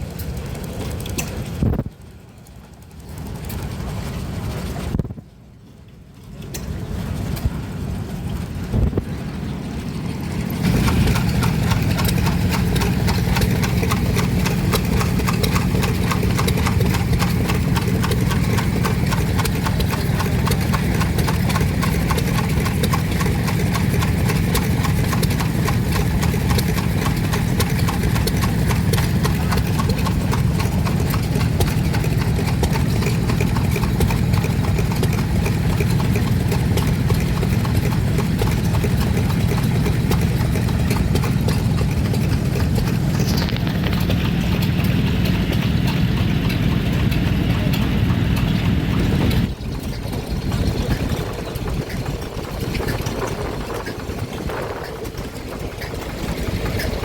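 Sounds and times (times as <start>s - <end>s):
stationary engine running: 9.1s - 57.0s.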